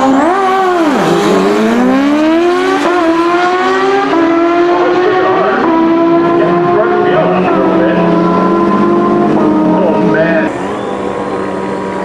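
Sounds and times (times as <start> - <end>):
motorcycle engines at full throttle: 0.0 - 12.0.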